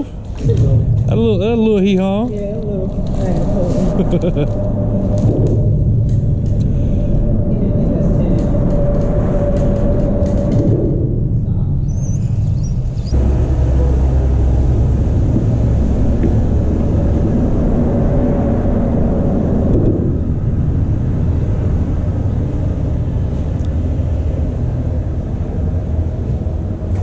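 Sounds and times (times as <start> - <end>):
traffic rumbling over bridge: 0.0 - 27.0.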